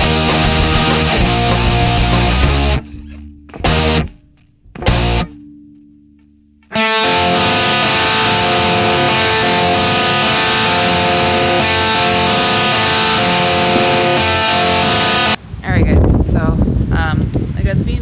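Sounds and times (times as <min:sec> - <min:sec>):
rock music with distorted guitar: 0:00.0 - 0:15.4.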